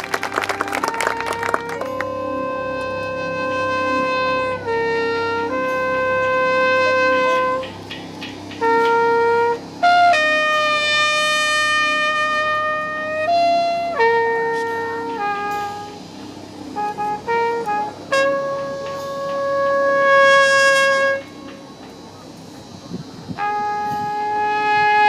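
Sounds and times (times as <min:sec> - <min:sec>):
marching band brass playing: 0:00.0 - 0:25.0.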